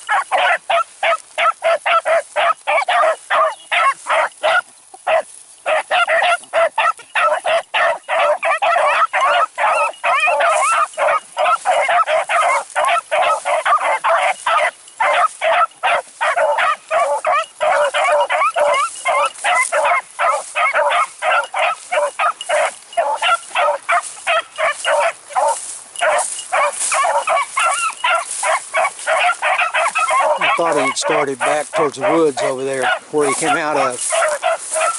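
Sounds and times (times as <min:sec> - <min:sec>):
pack of hounds baying: 0:00.0 - 0:34.9.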